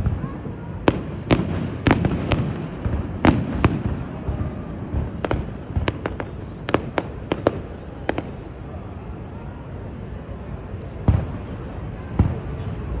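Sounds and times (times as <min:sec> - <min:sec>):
fireworks bangs and cracks: 0:00.0 - 0:08.9, 0:11.0 - 0:13.0.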